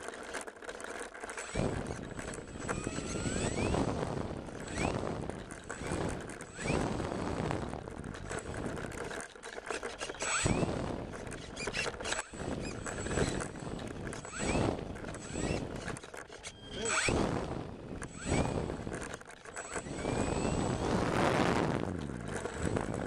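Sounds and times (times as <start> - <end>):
electric motor whine: 0.0 - 23.0
rumbling over rough dirt: 0.0 - 23.0.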